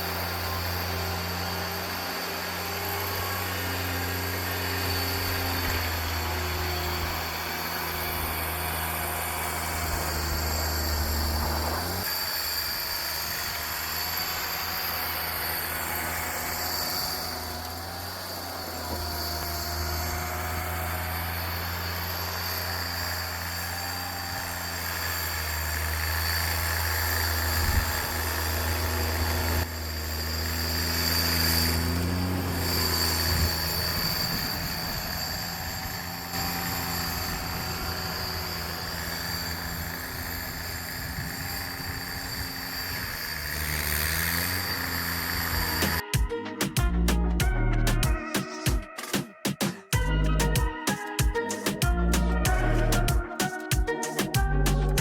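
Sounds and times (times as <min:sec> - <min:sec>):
garden tractor engine under load: 0:00.0 - 0:46.2, 0:49.9 - 0:55.0.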